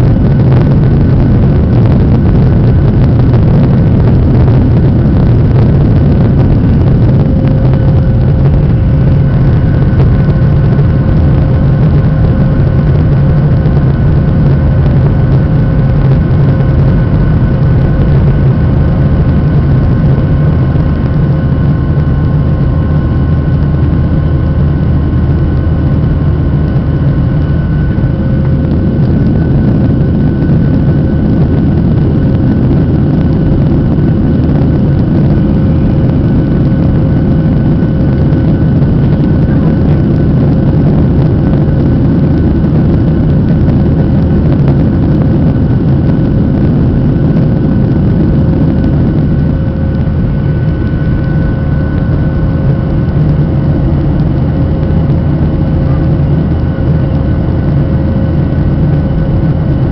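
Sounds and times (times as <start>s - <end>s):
jet engines heard from cabin: 0.0s - 59.9s.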